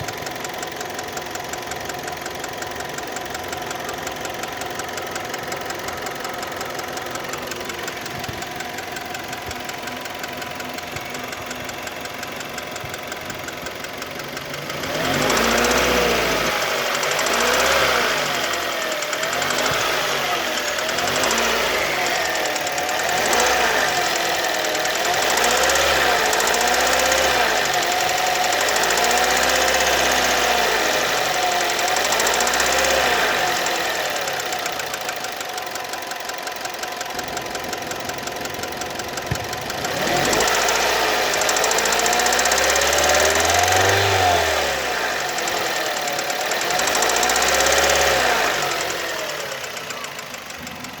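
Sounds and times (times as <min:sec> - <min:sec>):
car engine revving with knock: 0:00.0 - 0:51.0.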